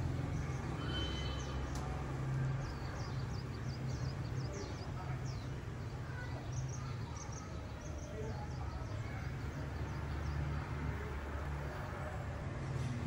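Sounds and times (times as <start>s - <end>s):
city traffic hum: 0.0s - 13.0s.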